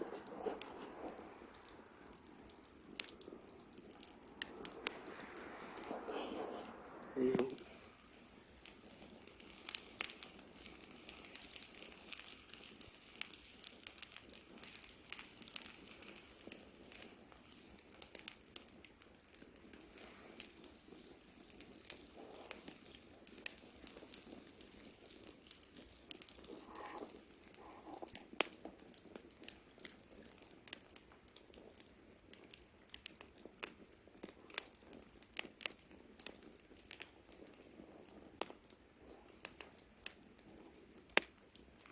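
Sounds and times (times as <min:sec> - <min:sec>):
soft fire hiss: 0:00.0 - 0:41.9
wood crackling and popping: 0:00.0 - 0:41.9.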